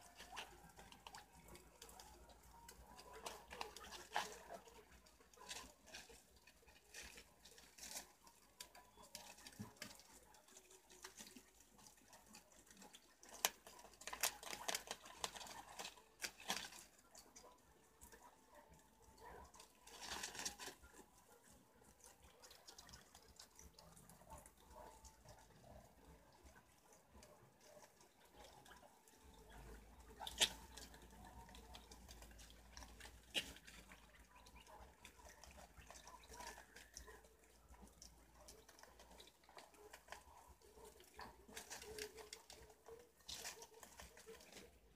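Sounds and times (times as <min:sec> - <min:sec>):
animals rustling among leaves: 0:00.0 - 0:44.9.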